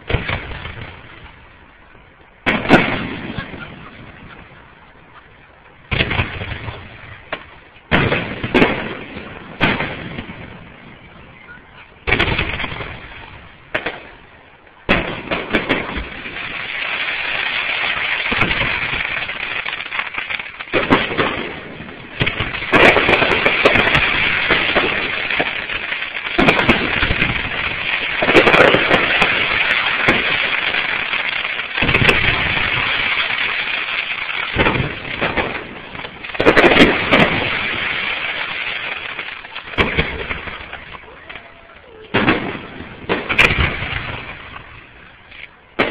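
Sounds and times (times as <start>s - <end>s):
fireworks booming: 0.0s - 45.9s
fireworks crackling: 0.0s - 45.9s.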